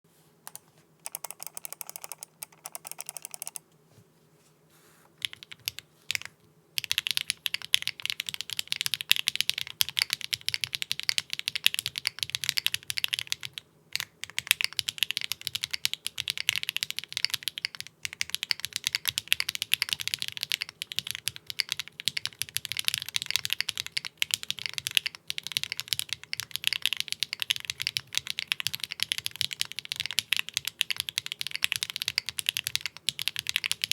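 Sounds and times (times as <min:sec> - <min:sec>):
mechanical keyboard typing: 0:00.5 - 0:03.6, 0:05.2 - 0:33.9.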